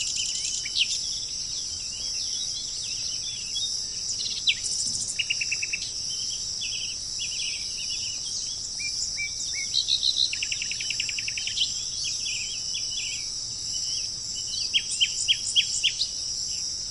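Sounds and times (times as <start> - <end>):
bird trills: 0.0 - 16.2
insects droning: 0.0 - 16.9
songbirds chirping: 0.0 - 16.9.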